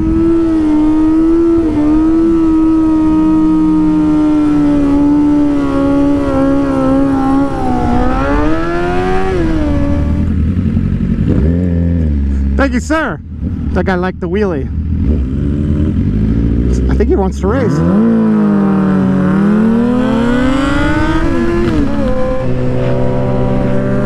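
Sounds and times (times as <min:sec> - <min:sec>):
motorcycle engine at high revs: 0:00.0 - 0:12.6, 0:14.7 - 0:24.0
road and wind noise: 0:00.0 - 0:24.0.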